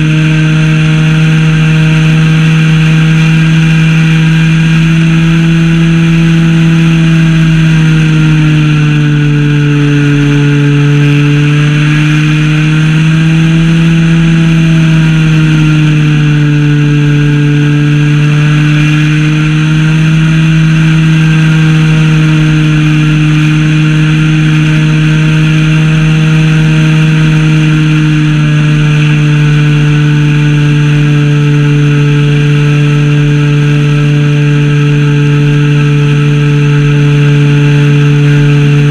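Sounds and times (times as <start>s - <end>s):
two-stroke engine running: 0.0s - 38.9s.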